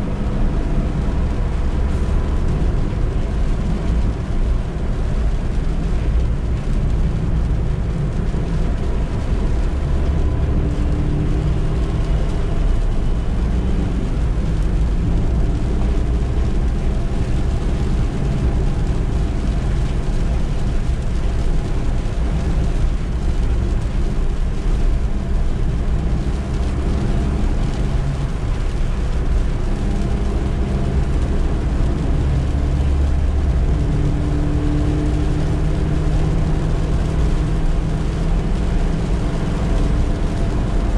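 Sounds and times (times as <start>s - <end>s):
road noise: 0.0s - 40.9s
van engine running: 0.0s - 40.9s.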